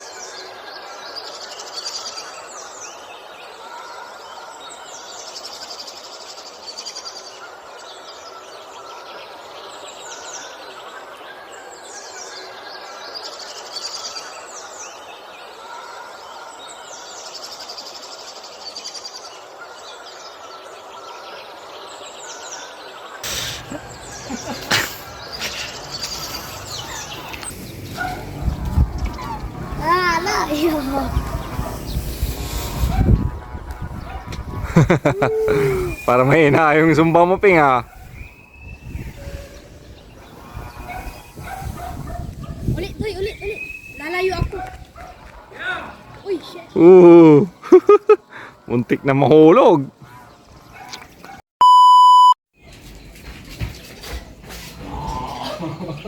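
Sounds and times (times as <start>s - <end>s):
birds chirping: 1.4s - 51.4s.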